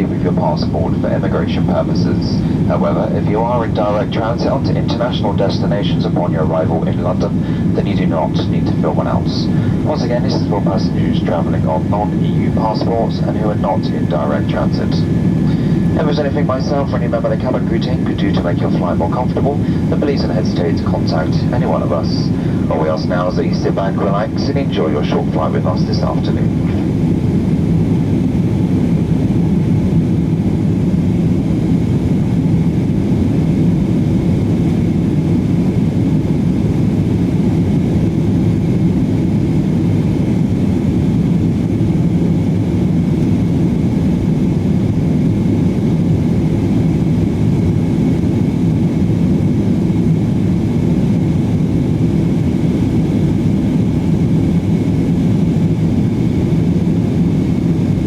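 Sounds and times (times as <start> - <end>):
airliner cabin engine rumble: 0.0 - 58.0
faint steady hum: 0.0 - 58.0.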